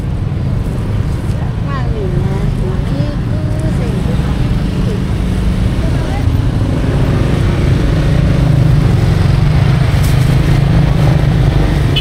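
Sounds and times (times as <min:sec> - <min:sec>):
traffic rumbling: 0:00.0 - 0:12.0.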